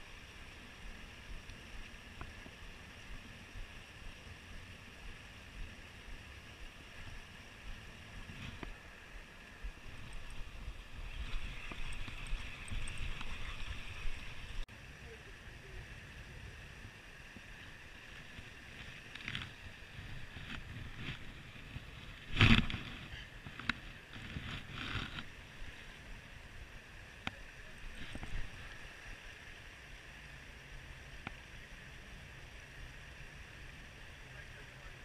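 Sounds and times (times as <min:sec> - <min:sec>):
low outdoor noise by water: 0:00.0 - 0:35.0.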